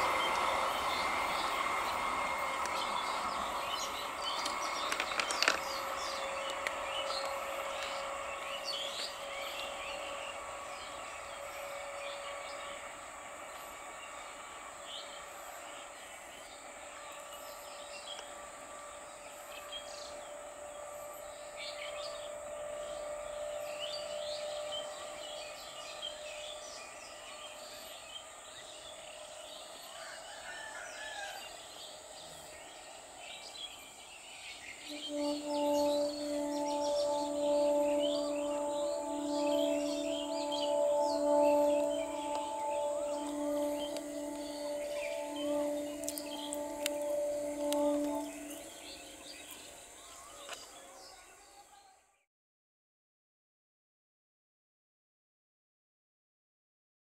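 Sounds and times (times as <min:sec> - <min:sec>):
birds chirping: 0:00.0 - 0:51.8
distant electric train hum: 0:00.0 - 0:52.0.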